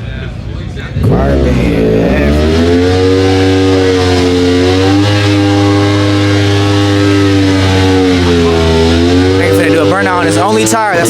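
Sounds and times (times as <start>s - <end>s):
car engine revving: 0.8s - 11.0s.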